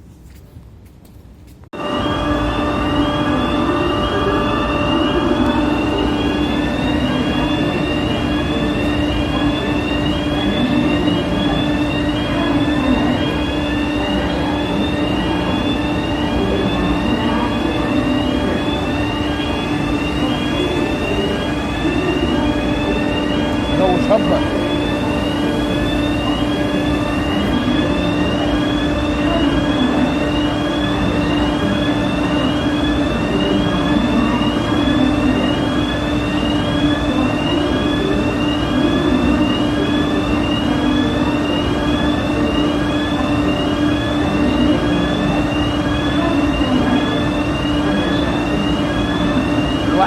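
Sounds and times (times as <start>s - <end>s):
fire alarm rising sweep tone: 1.8s - 50.0s.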